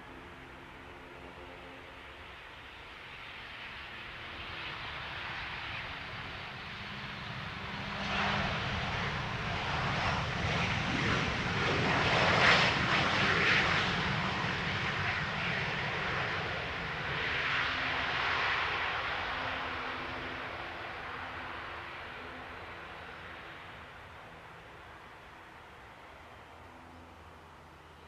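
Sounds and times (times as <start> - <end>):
jet engines rushing: 0.0 - 26.6.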